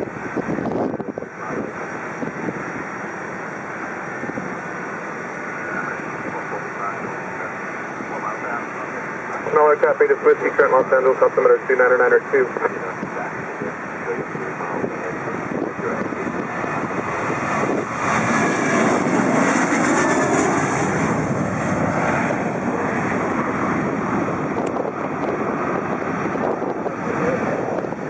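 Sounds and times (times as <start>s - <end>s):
jet plane taking off: 0.0s - 28.0s.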